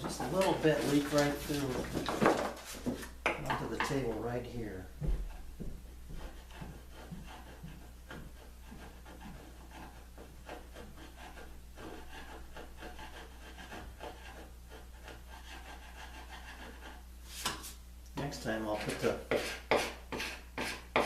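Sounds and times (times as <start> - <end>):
scraping strokes on wood: 0.0 - 3.1, 3.8 - 21.0.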